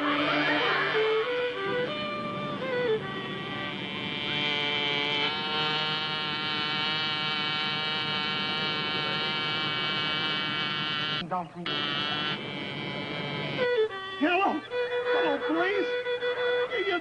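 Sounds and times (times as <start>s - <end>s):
propeller plane engine buzzing: 0.0s - 15.1s.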